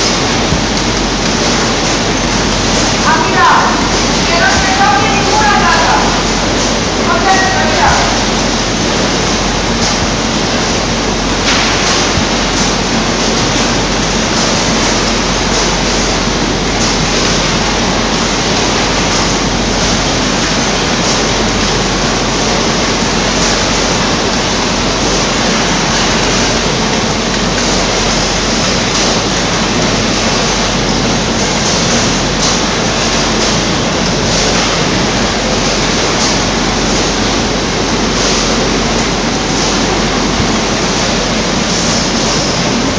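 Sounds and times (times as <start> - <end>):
conveyor machinery rushing: 0.0 - 42.9.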